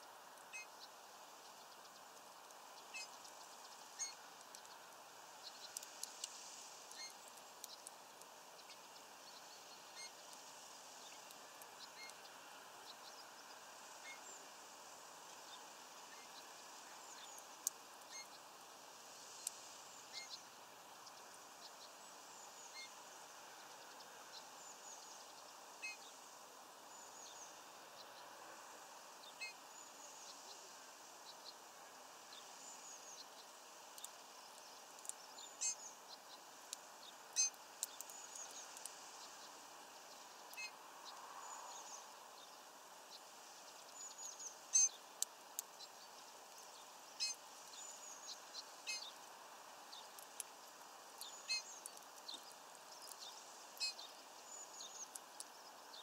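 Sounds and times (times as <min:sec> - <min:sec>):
steady hiss: 0:00.0 - 0:56.0
small birds chirping: 0:00.1 - 0:56.0.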